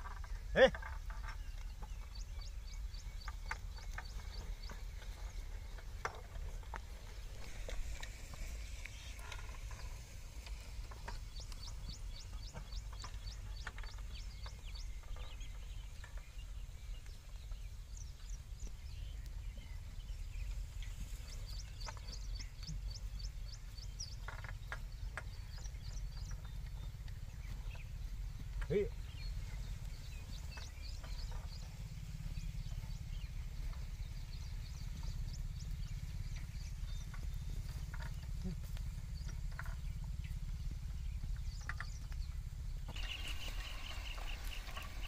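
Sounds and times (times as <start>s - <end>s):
birds chirping: 0.0s - 45.0s
steady low rumble: 0.0s - 45.0s.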